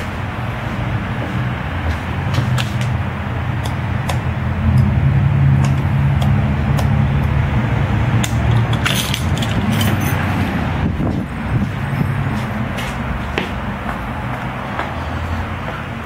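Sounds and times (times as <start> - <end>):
low rumble and hum: 0.0 - 14.6.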